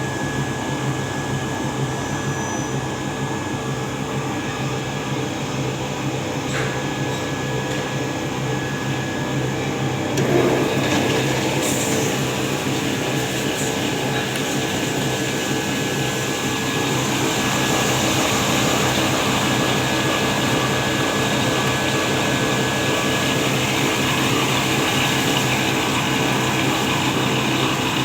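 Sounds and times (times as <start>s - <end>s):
machine mechanical hum: 0.0s - 28.0s.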